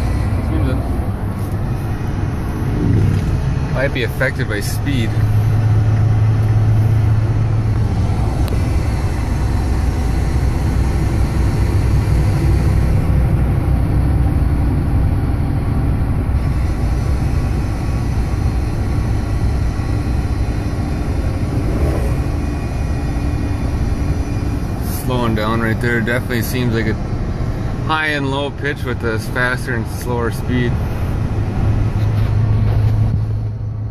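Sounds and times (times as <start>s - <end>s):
faint whine: 0.0s - 31.4s
truck road and drivetrain noise: 0.0s - 33.9s.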